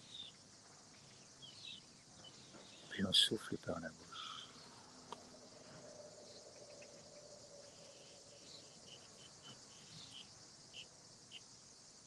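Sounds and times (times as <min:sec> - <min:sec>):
faint insect chirring: 0:00.0 - 0:12.0.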